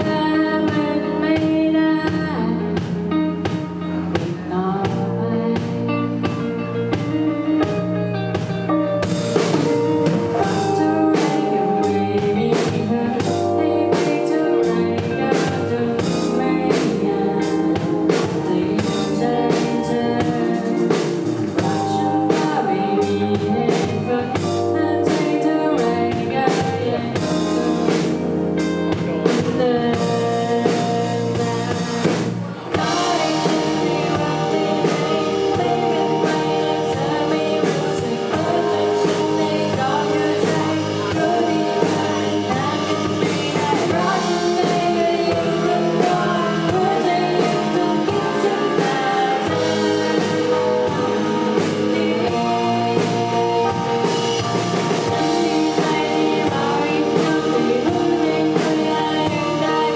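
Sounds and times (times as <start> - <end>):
electronic pop music: 0.0 - 59.9
person singing: 0.0 - 59.9.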